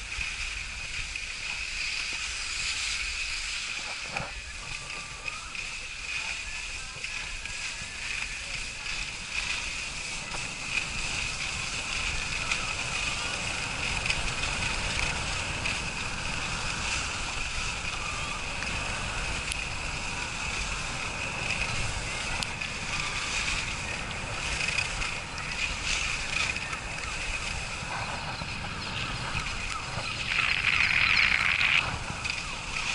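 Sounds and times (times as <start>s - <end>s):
skis sliding on snow: 0.0s - 32.9s
wind rushing over microphone: 0.0s - 32.9s.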